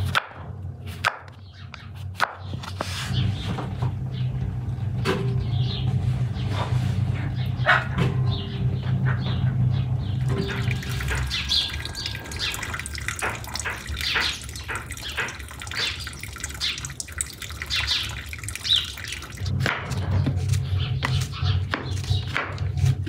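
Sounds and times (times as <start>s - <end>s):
small birds chirping: 1.2s - 23.0s
low steady hum: 3.2s - 23.0s.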